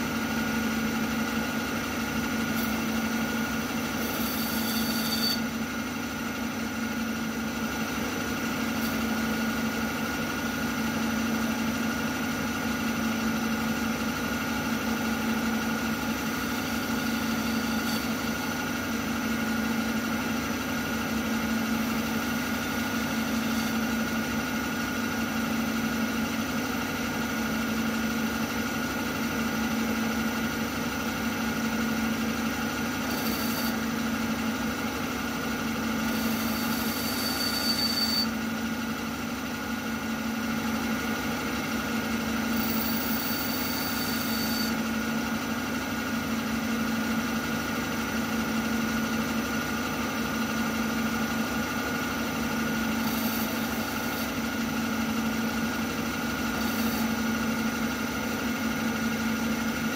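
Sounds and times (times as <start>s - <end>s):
milling spindle motor hum: 0.0s - 59.9s.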